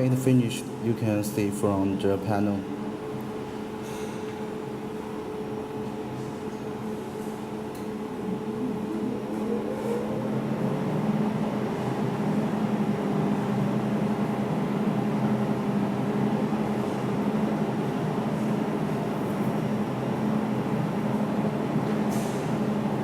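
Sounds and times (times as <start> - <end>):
water pump humming: 0.0 - 21.7.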